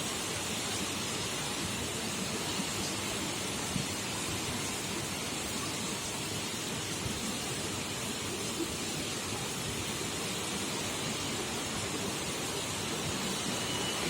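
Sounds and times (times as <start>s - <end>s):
heavy rain pouring: 0.2s - 14.0s.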